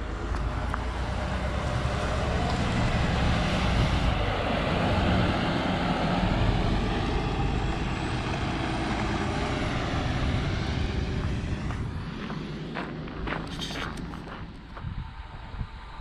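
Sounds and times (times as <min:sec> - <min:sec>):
coach engine rumbling: 0:00.0 - 0:16.0.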